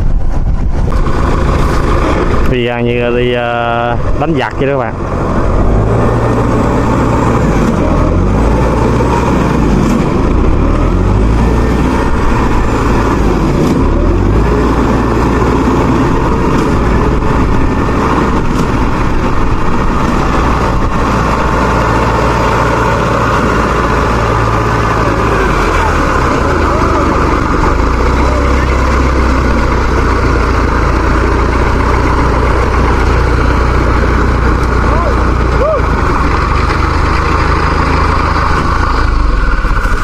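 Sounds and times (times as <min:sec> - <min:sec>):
heavy diesel engines rumbling: 0:00.0 - 0:40.0.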